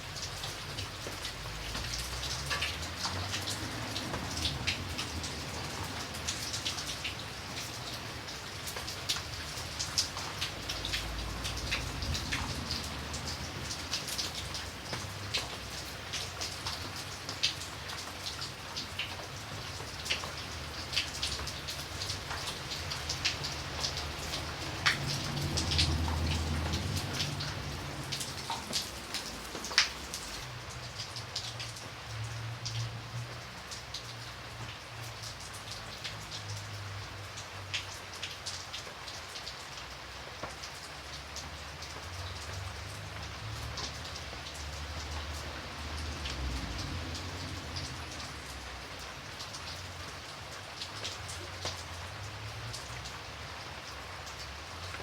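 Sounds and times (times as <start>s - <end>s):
raindrops ticking: 0.0s - 55.0s
steady rain: 0.0s - 55.0s.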